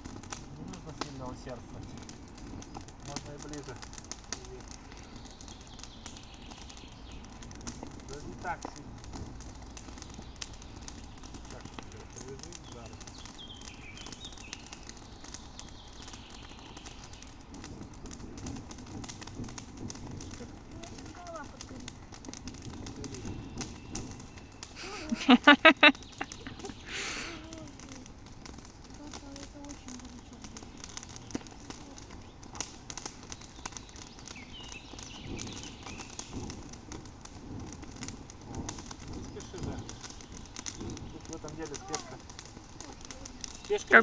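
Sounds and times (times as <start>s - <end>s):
birds chirping: 0.0s - 44.0s
light clicks and crackles: 0.0s - 44.0s.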